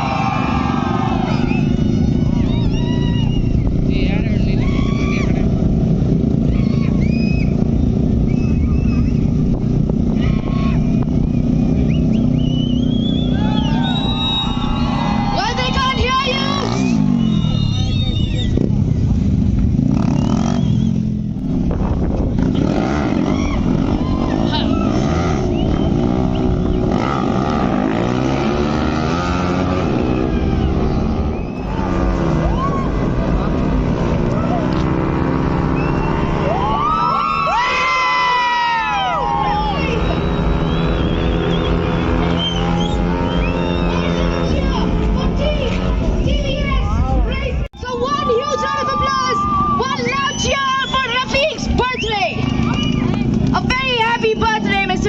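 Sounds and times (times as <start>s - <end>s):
onlookers whistling and whooping: 0.0s - 5.5s, 6.4s - 18.8s, 19.8s - 21.4s, 22.4s - 33.5s, 34.3s - 45.0s, 47.8s - 55.0s
motorbike engines rumbling: 0.0s - 55.0s.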